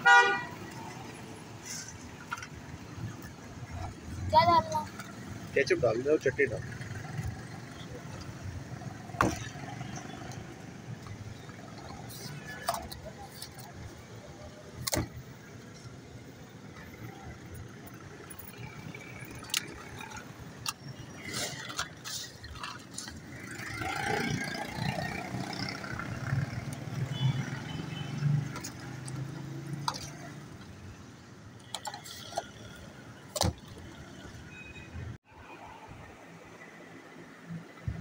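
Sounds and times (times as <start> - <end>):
street noise: 0.0 - 38.0.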